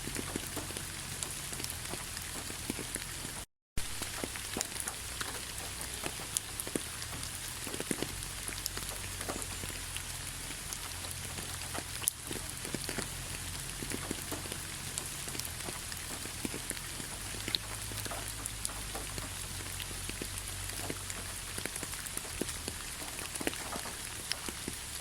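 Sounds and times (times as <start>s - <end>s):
raindrops ticking close by: 0.0s - 25.0s
steady rain hiss: 0.0s - 25.0s.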